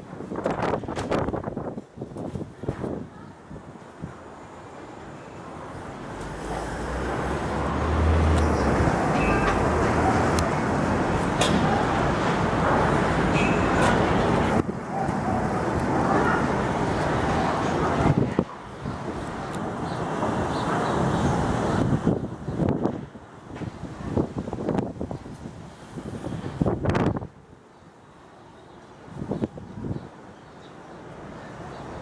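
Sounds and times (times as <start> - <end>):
storm wind roaring: 0.0 - 27.4.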